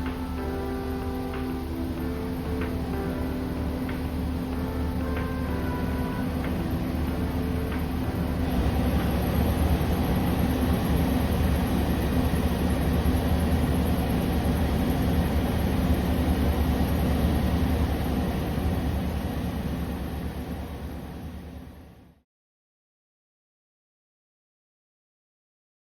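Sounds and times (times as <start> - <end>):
faint high whine: 0.0 - 22.2
van engine idling hum: 0.0 - 22.2.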